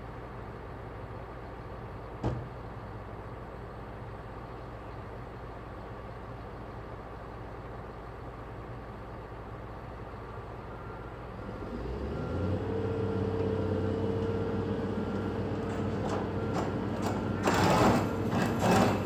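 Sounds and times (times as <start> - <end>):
excavator diesel engine: 3.0 - 19.0.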